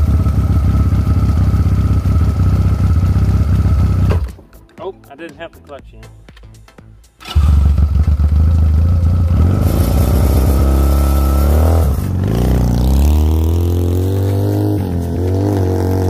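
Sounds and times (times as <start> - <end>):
quad bike engine revving: 0.0 - 4.3, 7.2 - 16.0.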